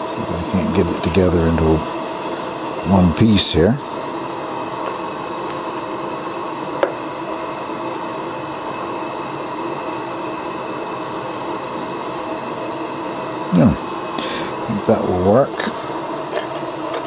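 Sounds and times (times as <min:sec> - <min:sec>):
gas lantern and stove hissing: 0:00.0 - 0:17.0.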